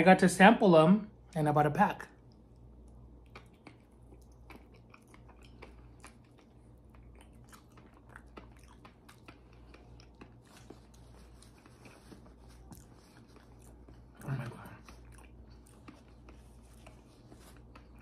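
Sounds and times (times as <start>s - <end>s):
low steady hum: 0.0s - 18.0s
wet mouth chewing clicks: 2.2s - 18.0s.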